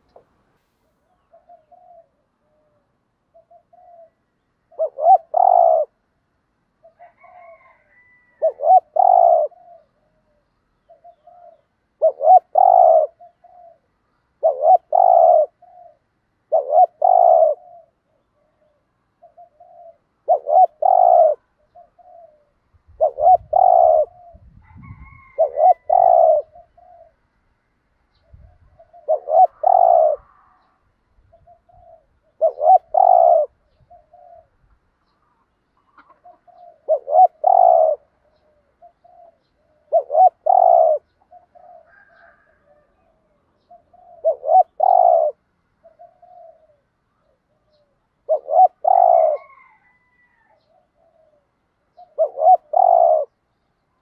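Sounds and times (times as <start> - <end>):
dove cooing: 0.0 - 0.4, 1.1 - 6.1, 6.8 - 27.3, 28.2 - 34.7, 35.8 - 53.4.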